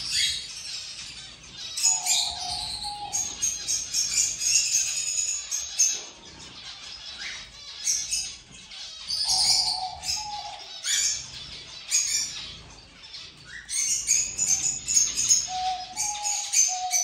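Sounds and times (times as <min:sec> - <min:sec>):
finches chirping: 0:00.0 - 0:17.0.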